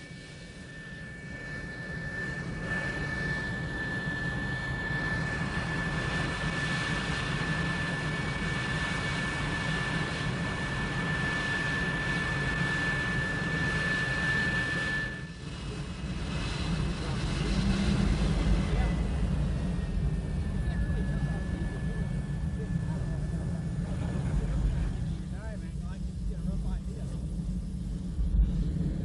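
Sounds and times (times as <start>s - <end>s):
jet engine roaring and whining: 0.0s - 29.0s.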